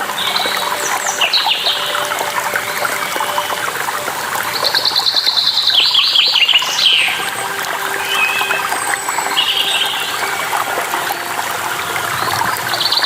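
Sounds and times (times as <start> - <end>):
songbirds chirping: 0.0 - 13.0
trickling water: 0.0 - 13.0.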